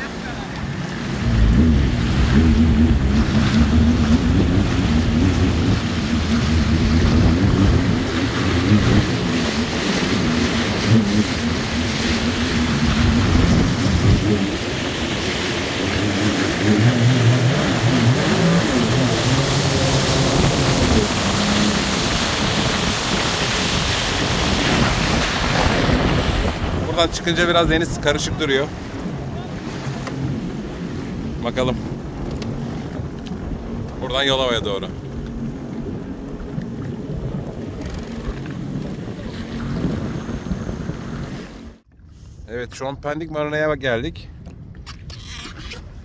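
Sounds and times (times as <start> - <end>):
jet ski engine running: 0.0 - 42.4
water and wind rushing: 0.0 - 46.0.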